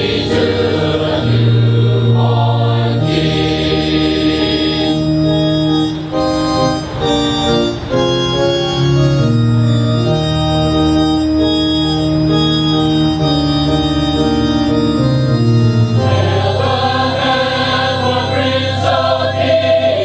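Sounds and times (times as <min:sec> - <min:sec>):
organ playing held chords: 0:00.0 - 0:20.0.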